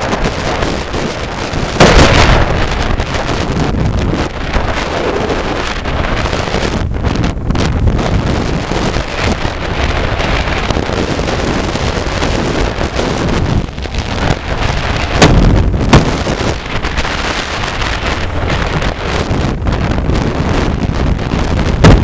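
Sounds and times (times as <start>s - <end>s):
road and engine rumble: 0.0s - 22.0s
sharp wind gusts on microphone: 0.0s - 22.0s
wind buffeting microphone: 0.0s - 22.0s.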